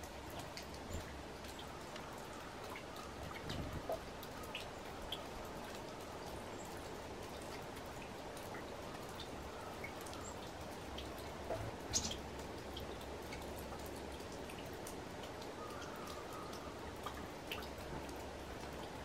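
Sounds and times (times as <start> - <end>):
faint drip-like ticks: 0.0 - 19.0
outdoor background hiss: 0.0 - 19.0.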